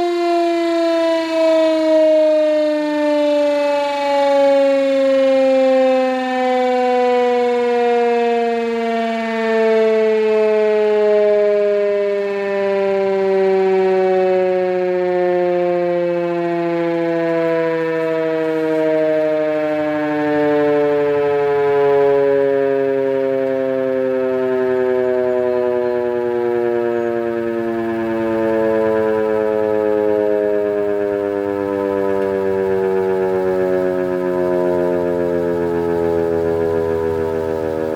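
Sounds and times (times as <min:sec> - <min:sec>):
electric siren howling: 0:00.0 - 0:37.9.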